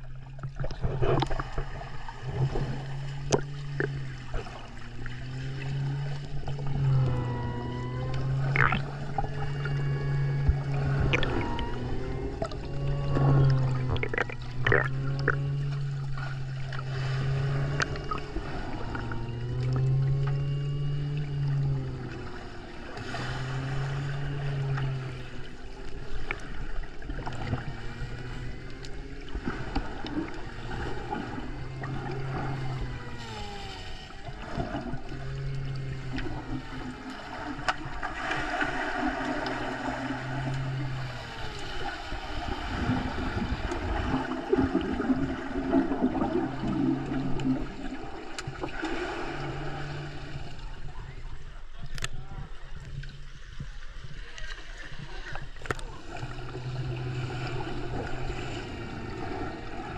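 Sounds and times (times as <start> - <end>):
water gurgling underwater: 0.0 - 52.0
low underwater tones: 0.0 - 59.9.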